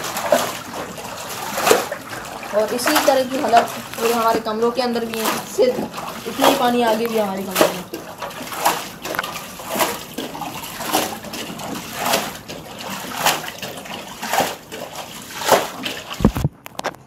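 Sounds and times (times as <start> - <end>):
water splashing and pouring: 0.0 - 16.6.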